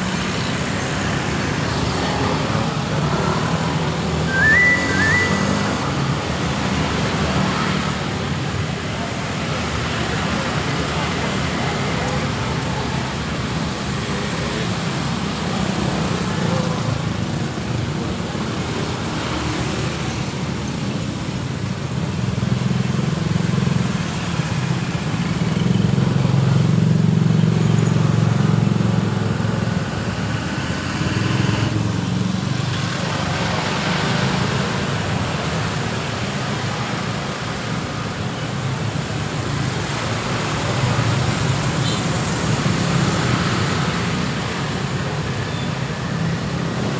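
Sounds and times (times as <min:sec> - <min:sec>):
road traffic passing: 0:00.0 - 0:46.9.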